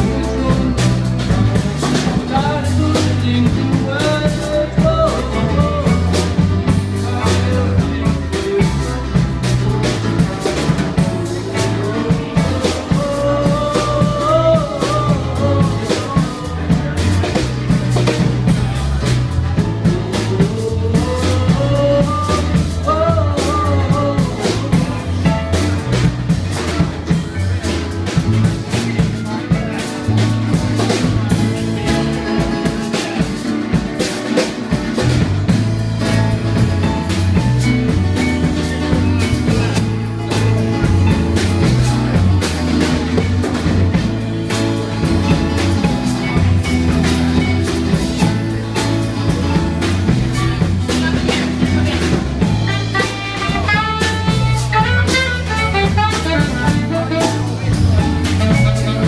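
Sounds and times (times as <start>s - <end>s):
bass guitar line: 0.0s - 59.0s
drum kit beat with rimshots: 0.0s - 59.0s.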